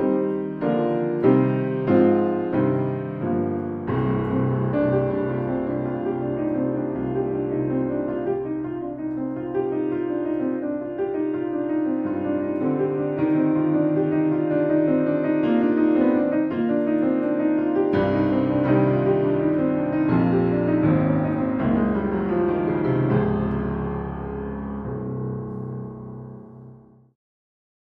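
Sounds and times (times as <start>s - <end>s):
piano music: 0.0s - 27.2s.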